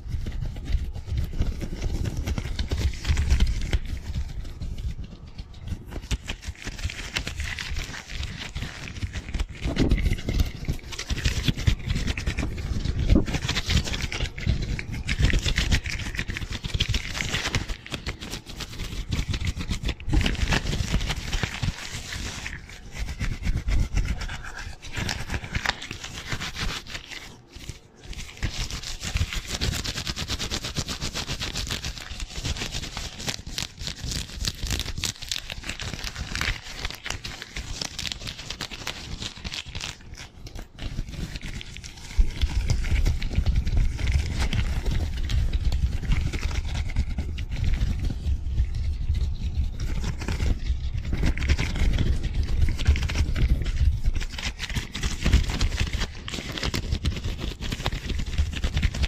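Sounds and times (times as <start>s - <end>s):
gloves rubbing on microphone: 0.0s - 59.0s.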